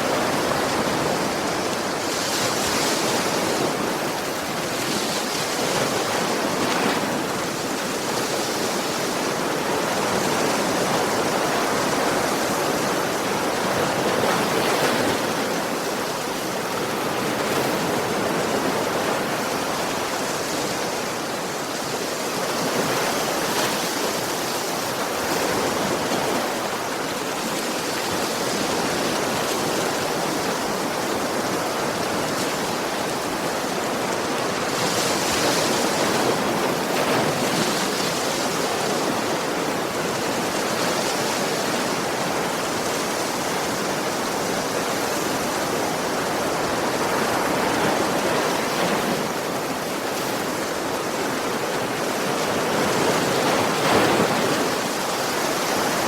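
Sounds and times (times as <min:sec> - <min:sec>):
ocean waves on shore: 0:00.0 - 0:56.0.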